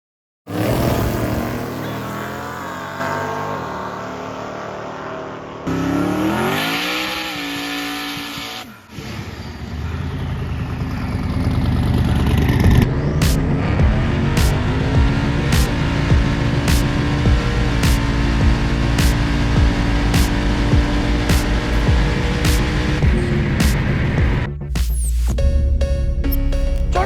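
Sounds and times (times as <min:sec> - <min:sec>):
drag racing car engines revving: 0:00.5 - 0:24.5.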